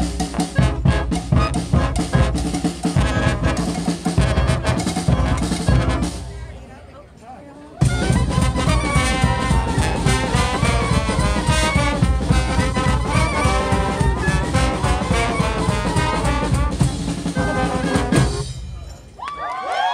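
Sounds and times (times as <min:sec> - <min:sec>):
brass band playing: 0:00.0 - 0:06.6, 0:07.6 - 0:18.8
drums beating: 0:00.0 - 0:06.7, 0:07.8 - 0:19.2.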